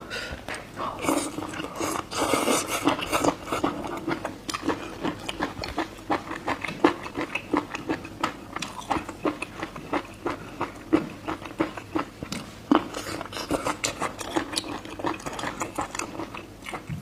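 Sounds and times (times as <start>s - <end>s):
person chewing and biting: 1.1s - 17.0s.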